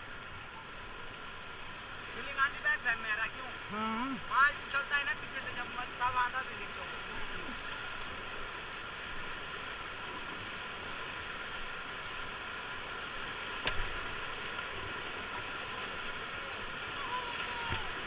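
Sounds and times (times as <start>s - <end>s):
rushing whitewater: 0.0s - 18.0s.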